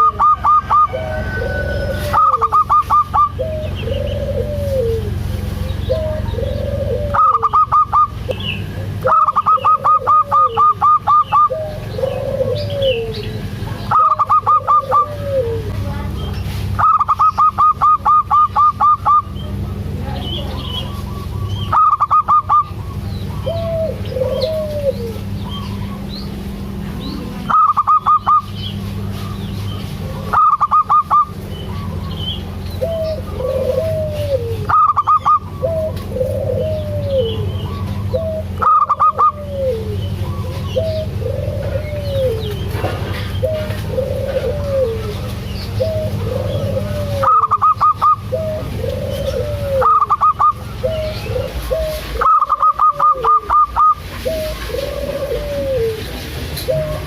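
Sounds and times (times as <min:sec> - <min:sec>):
dove cooing: 0:00.0 - 0:57.0
dove staccato calls: 0:00.0 - 0:57.0
steady low hum: 0:00.0 - 0:57.0.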